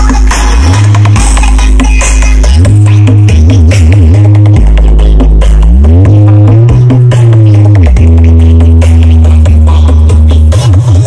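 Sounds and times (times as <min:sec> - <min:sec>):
loud electronic dance music: 0:00.0 - 0:11.0
wobbling bass: 0:00.0 - 0:11.0.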